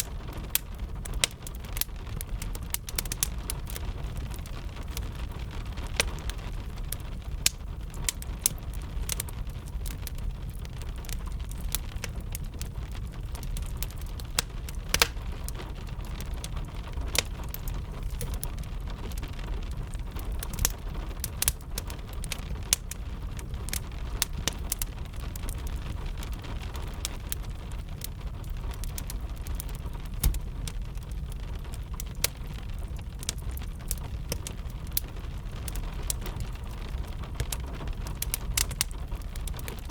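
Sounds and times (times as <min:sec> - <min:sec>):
rain rushing: 0:00.0 - 0:39.9
wood fire crackling and popping: 0:00.0 - 0:39.9.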